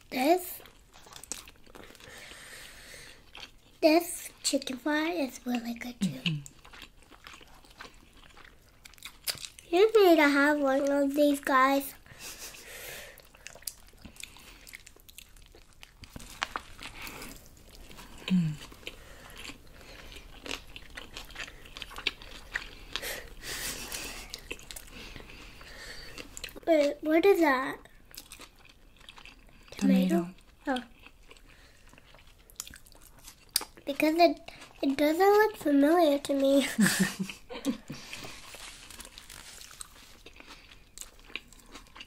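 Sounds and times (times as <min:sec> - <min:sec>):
chewing with crunches: 0:00.4 - 0:42.0.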